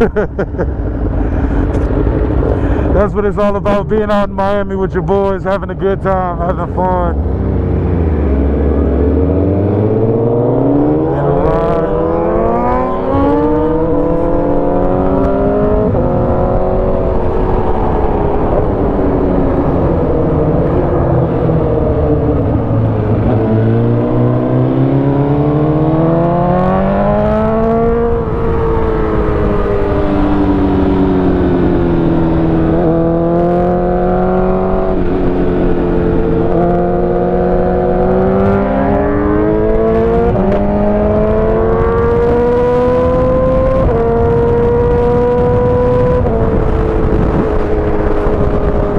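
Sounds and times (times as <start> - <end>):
motorcycle engine revving: 6.5 - 48.9.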